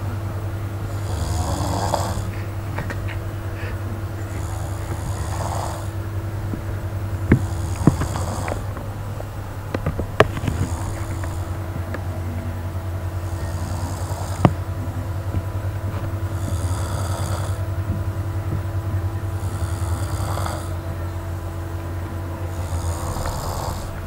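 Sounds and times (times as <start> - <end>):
steady low hum: 0.0 - 24.0
person snoring: 0.8 - 9.0, 9.8 - 18.4, 19.1 - 24.0.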